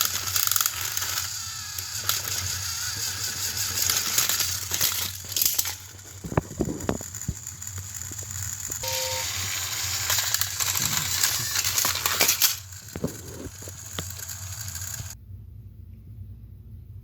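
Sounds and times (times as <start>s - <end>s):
toy trains clattering on track: 0.0s - 15.2s.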